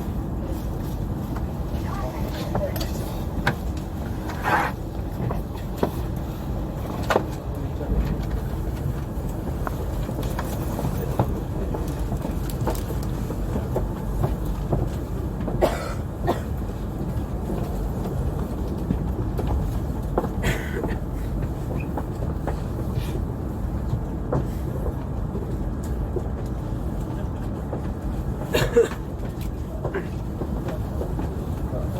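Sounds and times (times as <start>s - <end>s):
train running rumble: 0.0s - 31.9s.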